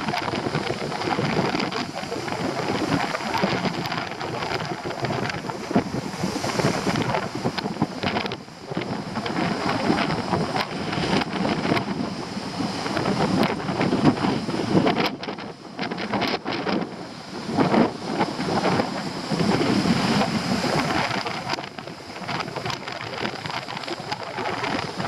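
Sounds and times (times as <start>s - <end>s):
stormy sea surf: 0.0s - 25.0s
strong wind buffeting microphone: 0.0s - 25.0s.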